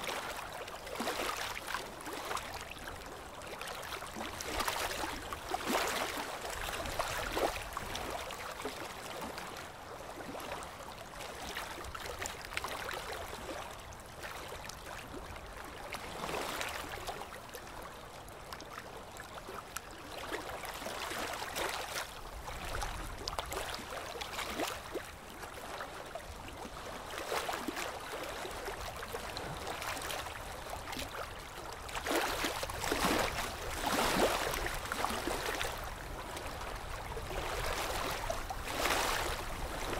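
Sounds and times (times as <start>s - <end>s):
water sloshing and splashing: 0.0s - 17.8s, 18.6s - 39.9s.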